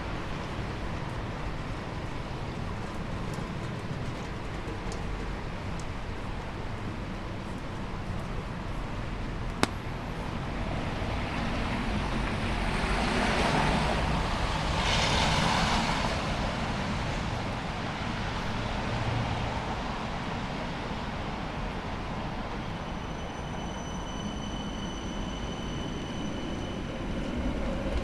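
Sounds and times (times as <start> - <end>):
tyres hissing on wet street: 0.0 - 27.9
street background noise: 0.0 - 28.0.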